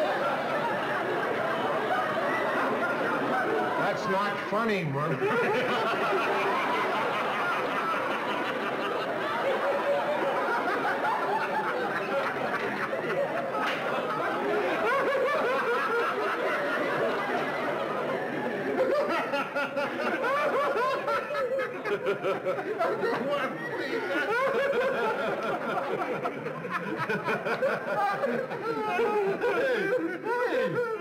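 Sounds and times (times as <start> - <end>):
audience laughing: 0.0 - 31.0
men laughing: 0.0 - 31.0.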